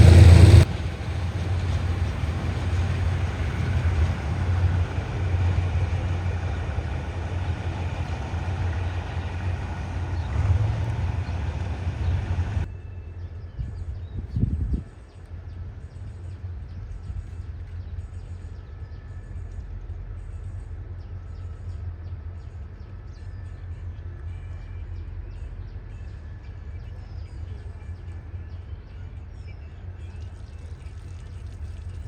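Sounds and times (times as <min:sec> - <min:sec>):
diesel train engine rumbling: 0:00.0 - 0:32.0.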